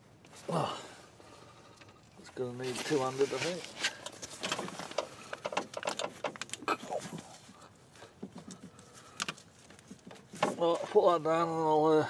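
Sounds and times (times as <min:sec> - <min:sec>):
hands rustling among wiring: 0:01.4 - 0:11.3.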